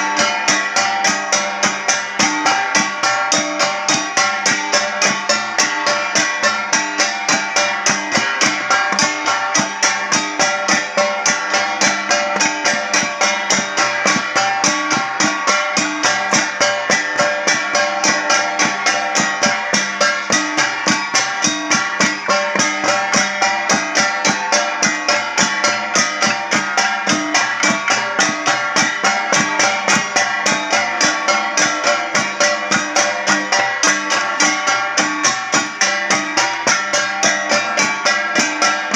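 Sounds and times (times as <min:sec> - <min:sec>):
gongs and percussion beating: 0:00.0 - 0:38.9.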